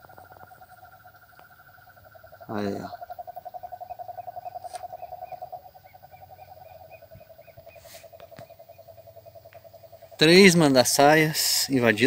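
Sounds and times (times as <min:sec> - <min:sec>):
low pulsing animal trill: 0:00.0 - 0:12.0.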